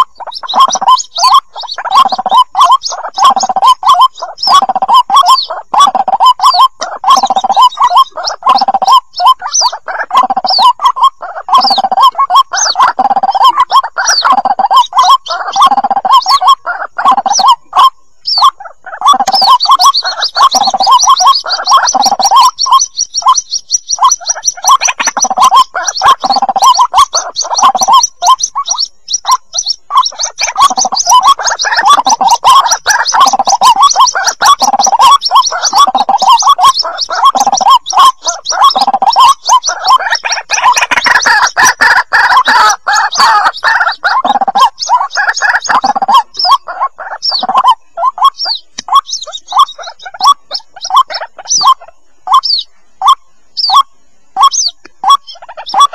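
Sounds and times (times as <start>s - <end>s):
chicks peeping: 0.0s - 55.9s
lower chattering bird calls: 0.0s - 55.9s.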